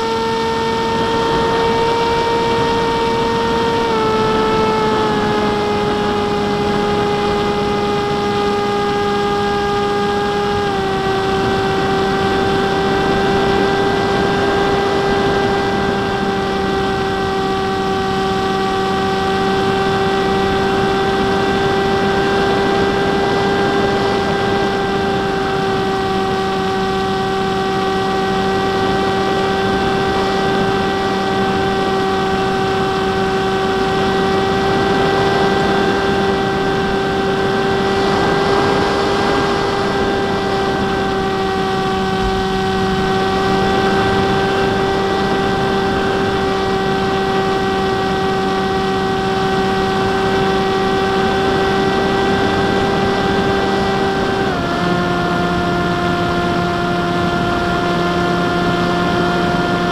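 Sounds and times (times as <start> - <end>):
wind rush: 0.0 - 57.9
electric motor and propeller whine: 0.0 - 59.9.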